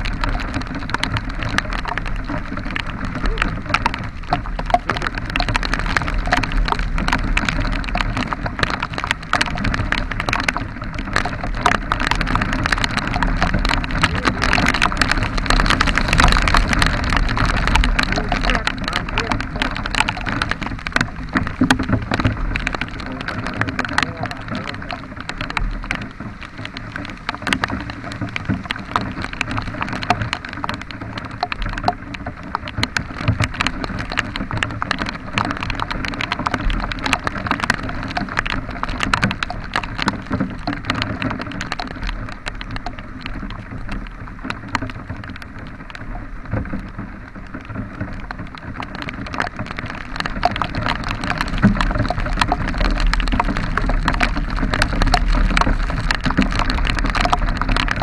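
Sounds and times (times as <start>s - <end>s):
rain falling: 0.0s - 58.0s
raindrops clicking near microphone: 0.0s - 58.0s.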